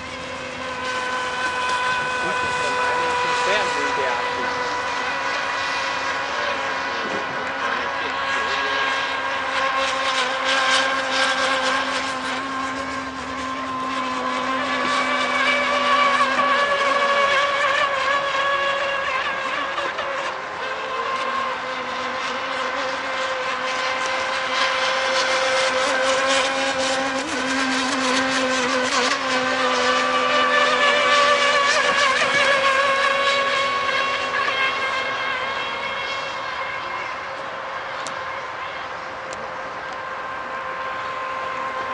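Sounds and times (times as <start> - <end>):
model boat engines whining: 0.0 - 41.9.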